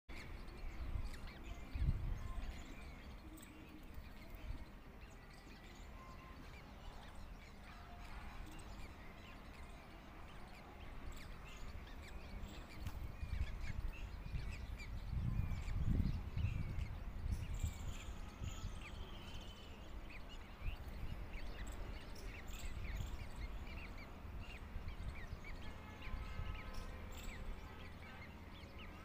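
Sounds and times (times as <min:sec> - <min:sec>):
birds chirping: 0:00.1 - 0:29.0.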